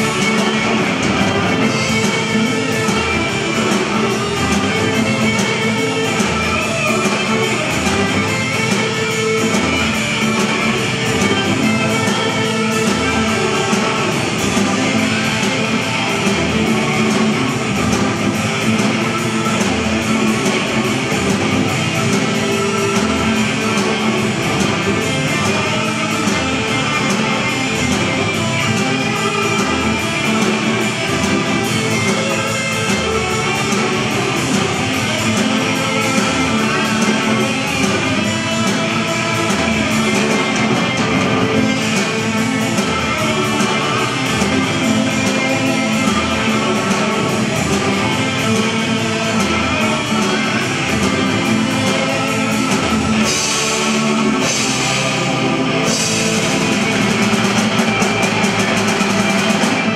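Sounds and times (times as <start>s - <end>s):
bass guitar: 0.0s - 59.9s
drums: 0.0s - 59.9s
electric guitar lead: 0.0s - 59.9s.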